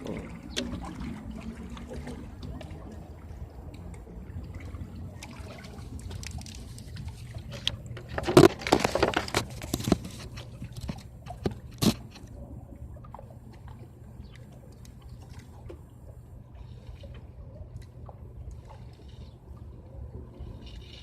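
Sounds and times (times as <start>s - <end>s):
steady low rumble: 0.0s - 21.0s
water sloshing and splashing: 0.0s - 21.0s.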